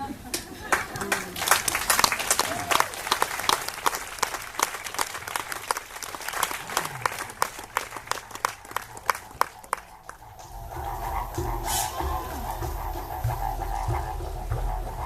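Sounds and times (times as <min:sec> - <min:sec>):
audience applause: 0:00.3 - 0:15.0.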